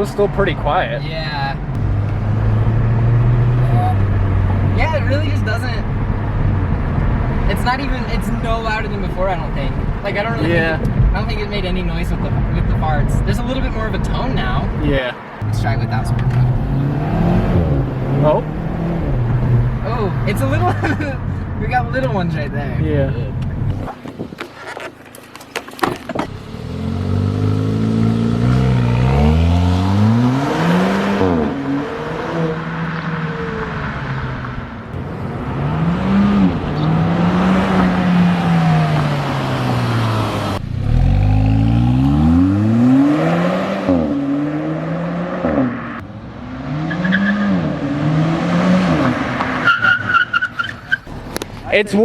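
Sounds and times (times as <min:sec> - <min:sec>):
car exhaust accelerating through gears: 0:00.0 - 0:14.8, 0:15.4 - 0:23.9, 0:26.2 - 0:52.0.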